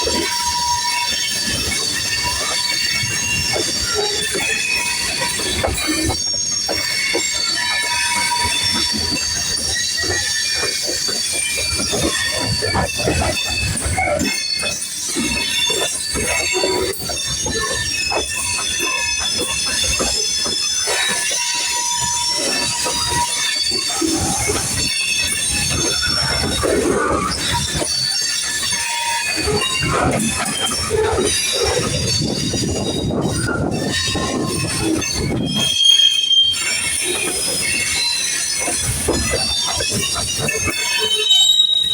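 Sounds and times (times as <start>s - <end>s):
train wheels squealing on rail: 0.0s - 41.9s.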